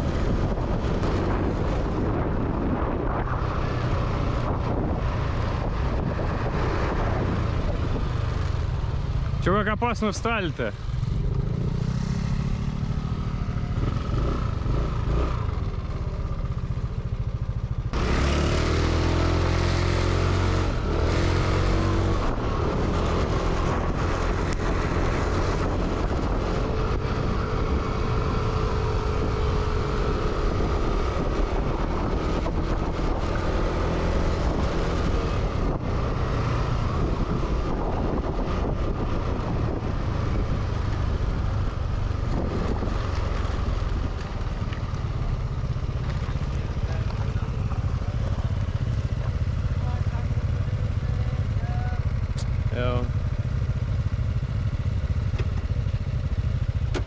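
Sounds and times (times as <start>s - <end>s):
wind rushing over microphone: 0.0s - 15.8s, 17.2s - 49.7s
motorbike engine: 0.0s - 57.0s.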